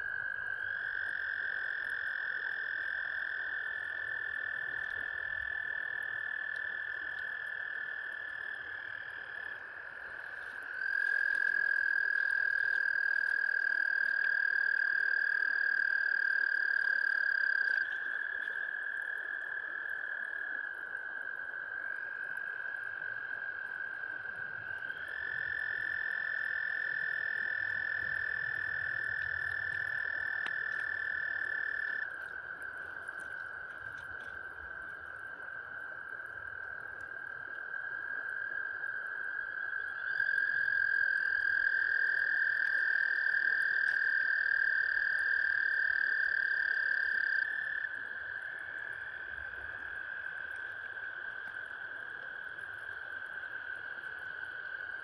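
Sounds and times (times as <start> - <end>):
frogs trilling: 0.0 - 55.0.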